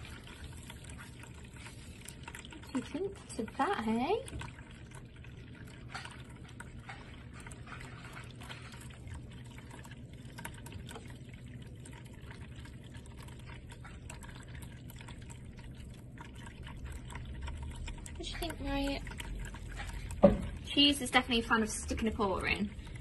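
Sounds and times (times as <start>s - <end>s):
small ticks and splashes: 0.0s - 23.0s
water trickling into basin: 0.0s - 23.0s.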